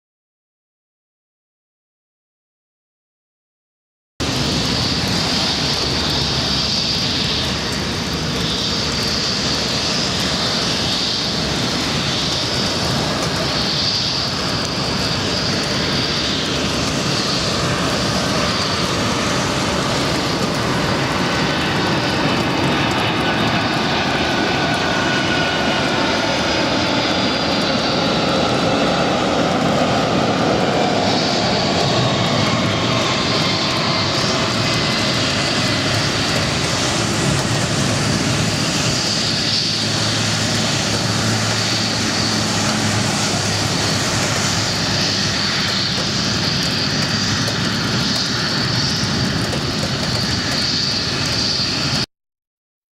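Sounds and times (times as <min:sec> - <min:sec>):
jet engines roaring: 0:04.2 - 0:52.1.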